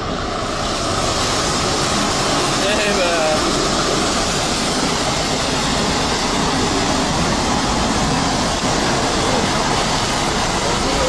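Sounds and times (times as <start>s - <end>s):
diesel engine running: 0.0s - 11.0s
water jets spraying: 0.0s - 11.0s.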